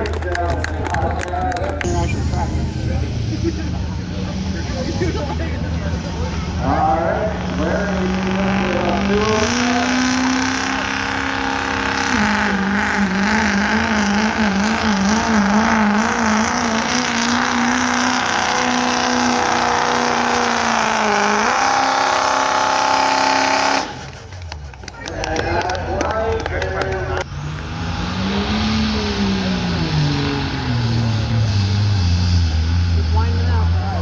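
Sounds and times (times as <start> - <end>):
diesel truck engine revving: 0.0 - 34.0.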